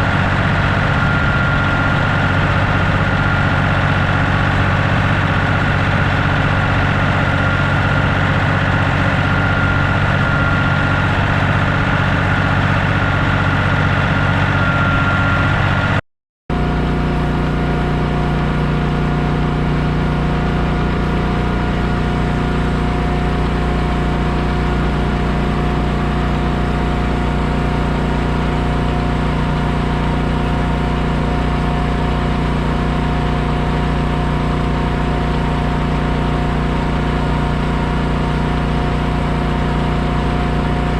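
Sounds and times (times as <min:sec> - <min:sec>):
heavy engines running: 0:00.0 - 0:40.9.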